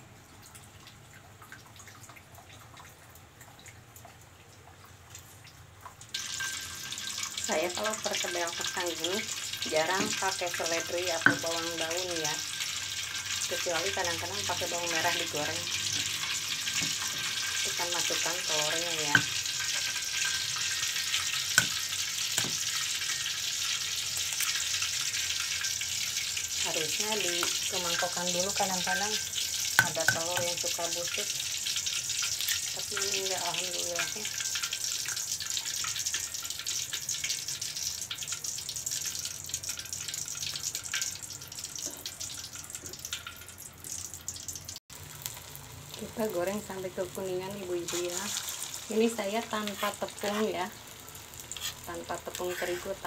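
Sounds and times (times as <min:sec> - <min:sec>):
oil sizzling in a wok: 0:05.0 - 0:53.0.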